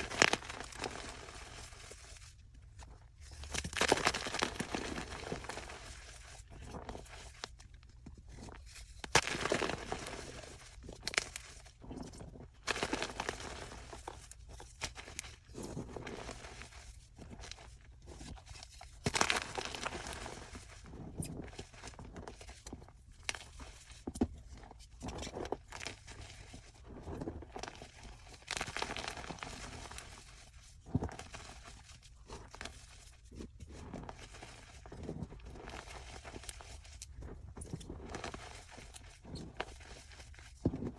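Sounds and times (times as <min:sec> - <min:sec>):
chalk crunching and crackling: 0:00.0 - 0:40.9.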